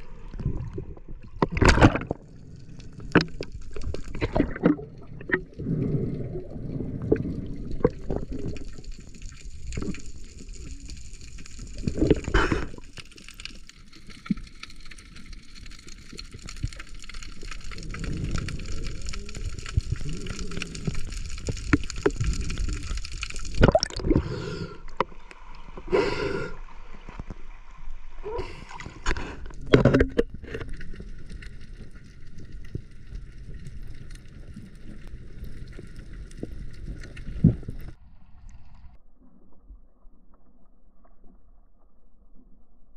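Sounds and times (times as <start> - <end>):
water gurgling and sloshing: 0.0 - 42.9.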